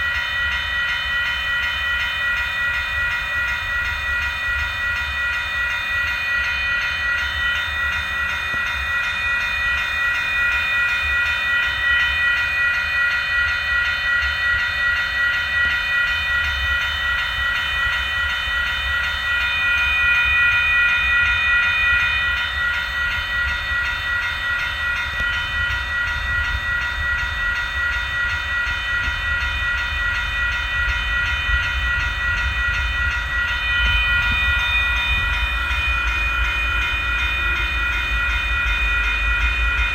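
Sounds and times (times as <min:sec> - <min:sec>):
high ringing tones: 0:00.0 - 0:39.9
train rumbling past: 0:00.0 - 0:39.9.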